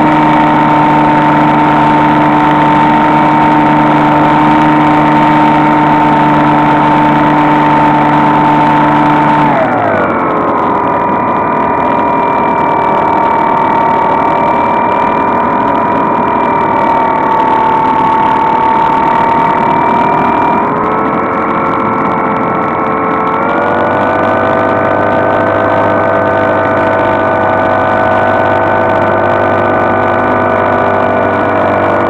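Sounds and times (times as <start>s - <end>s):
model plane motor and propeller whine: 0.0s - 32.0s.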